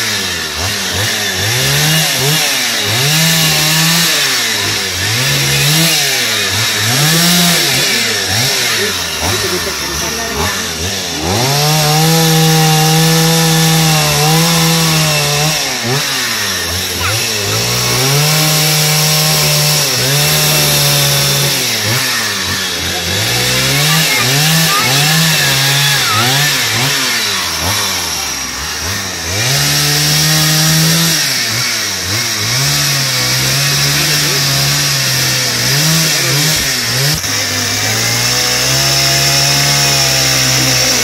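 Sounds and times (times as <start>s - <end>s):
chainsaw cutting wood: 0.0s - 41.0s.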